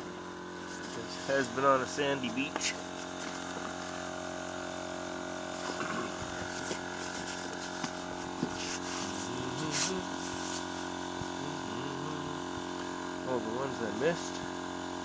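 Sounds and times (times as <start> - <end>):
electric air pump running: 0.0 - 15.0.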